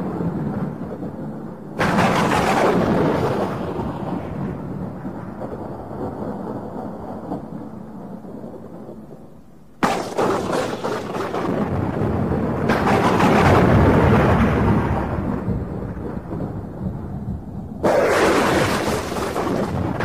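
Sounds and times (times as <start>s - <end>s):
sharp thunder crack: 0.0s - 7.7s, 9.8s - 20.0s
thunder rumbling: 0.0s - 20.0s.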